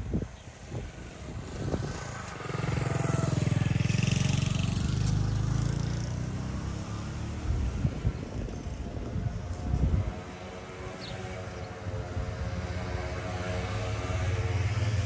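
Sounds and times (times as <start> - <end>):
vehicle engine passing by: 0.6 - 15.0.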